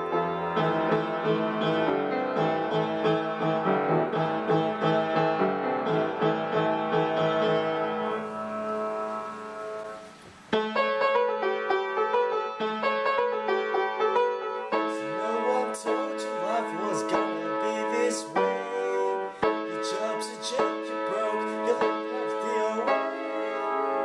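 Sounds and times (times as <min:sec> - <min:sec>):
piano melody with chords: 0:00.0 - 0:24.0
faint hiss: 0:00.1 - 0:24.0.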